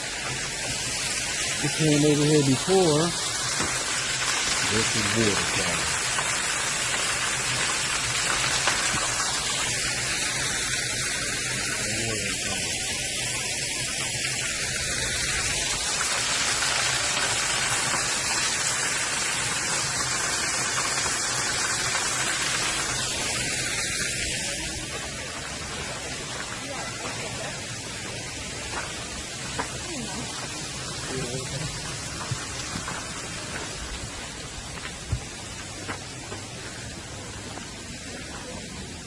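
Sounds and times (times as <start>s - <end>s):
water running down a waterfall: 0.0s - 39.0s.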